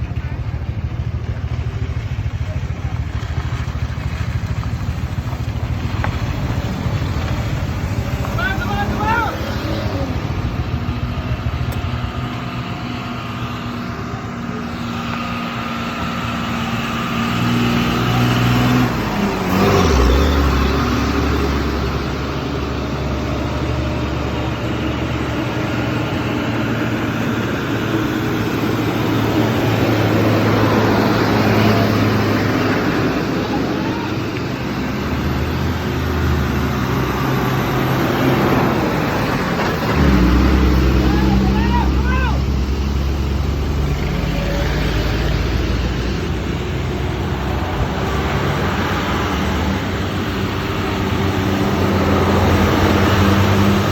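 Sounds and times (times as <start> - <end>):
road noise: 0.0 - 53.9
scooter engine running: 0.0 - 53.9.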